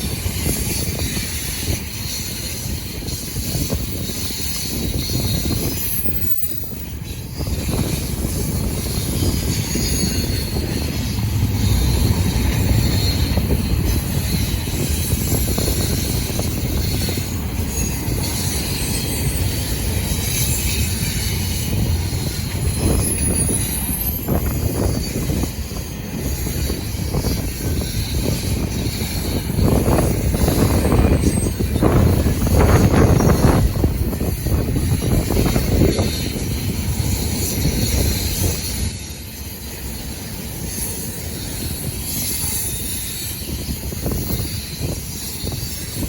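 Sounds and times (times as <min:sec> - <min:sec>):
train wheels rumbling on rails: 0:00.0 - 0:46.0
faint wheel squeal: 0:00.1 - 0:46.0.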